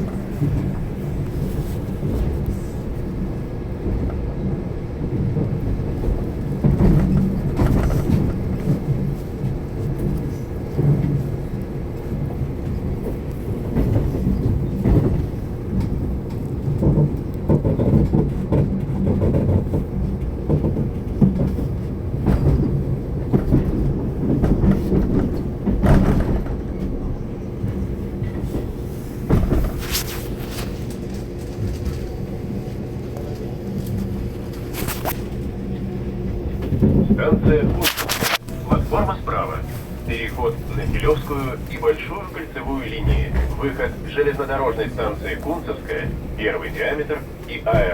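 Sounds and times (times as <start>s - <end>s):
train rumble and motor hum: 0.0s - 47.9s
wheels clattering on rails: 0.0s - 47.9s.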